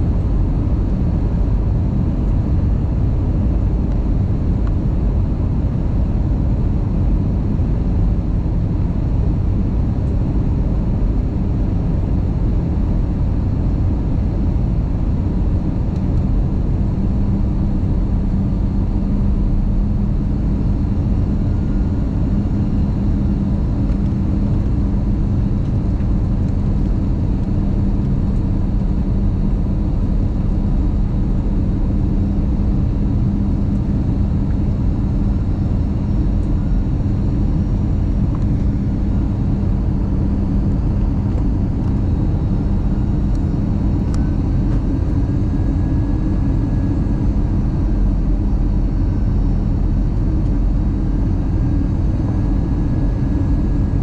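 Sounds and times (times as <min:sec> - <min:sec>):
aircraft cabin engine rumble: 0:00.0 - 0:54.0
low hum: 0:00.0 - 0:54.0.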